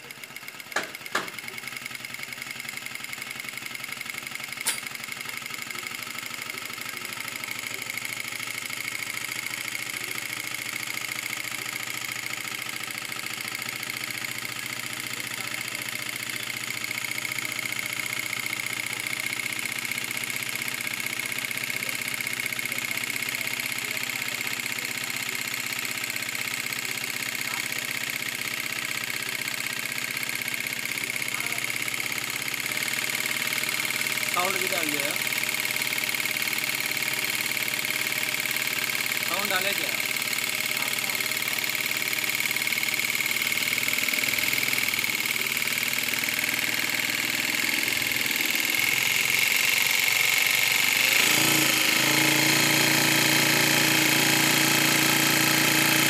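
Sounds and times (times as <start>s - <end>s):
sewing machine whining: 0.0s - 56.0s.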